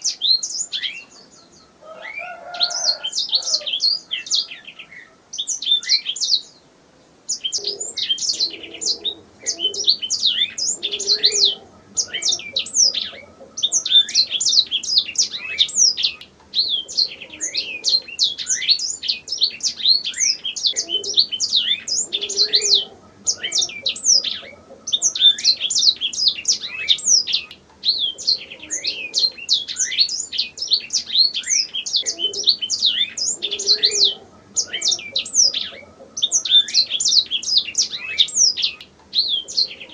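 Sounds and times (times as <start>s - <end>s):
canary singing: 0.0s - 6.6s, 7.3s - 39.9s.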